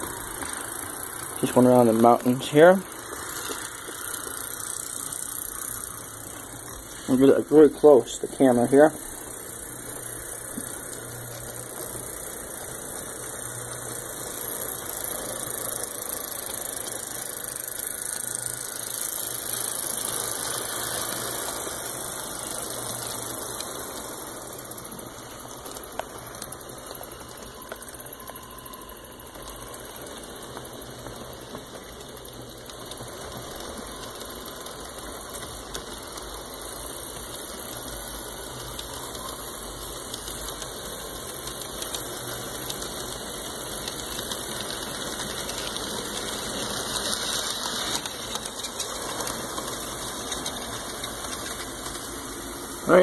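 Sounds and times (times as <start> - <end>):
model train motors whirring: 0.0 - 53.0
wheels rattling on rails: 0.0 - 53.0.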